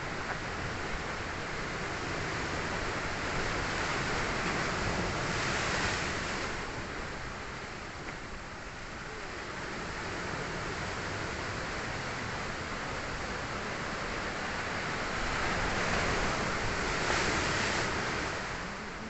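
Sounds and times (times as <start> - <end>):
sea waves breaking on beach: 0.0 - 19.0.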